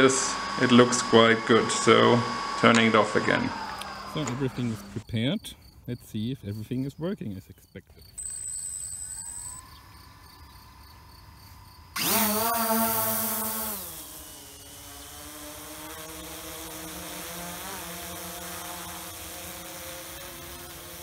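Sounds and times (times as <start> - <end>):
drone propellers whining: 0.0 - 5.0, 8.1 - 21.0.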